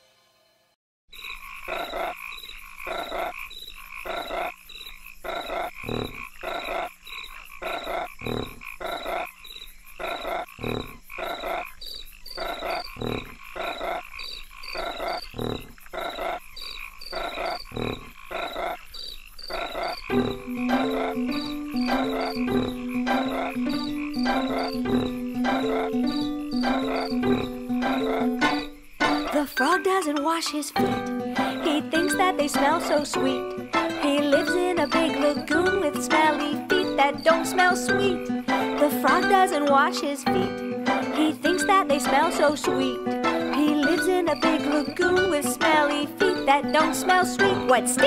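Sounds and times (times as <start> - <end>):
cartoon frog croaks: 1.2 - 29.6, 30.8 - 48.0.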